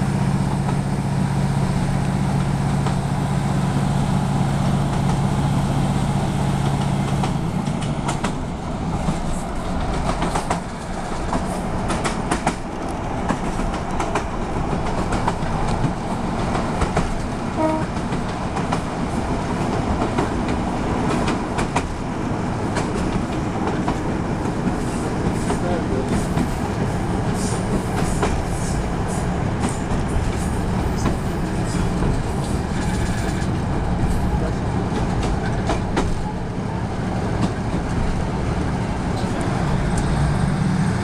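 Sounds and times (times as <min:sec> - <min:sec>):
train rumble on track: 0:00.0 - 0:41.0
wheels clicking over rail joints: 0:06.6 - 0:40.3.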